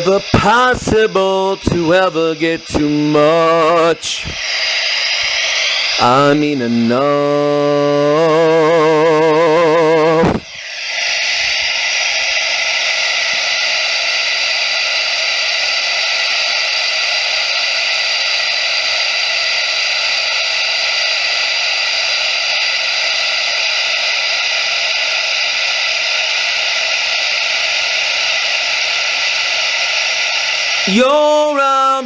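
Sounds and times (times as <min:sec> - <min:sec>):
steady static hiss: 0:00.0 - 0:32.0.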